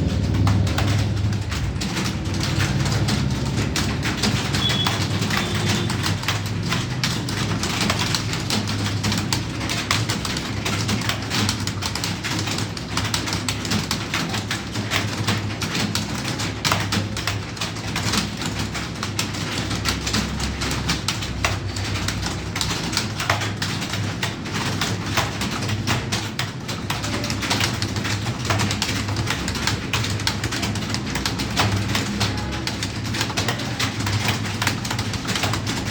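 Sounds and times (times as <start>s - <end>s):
keyboard typing: 0.0s - 35.9s.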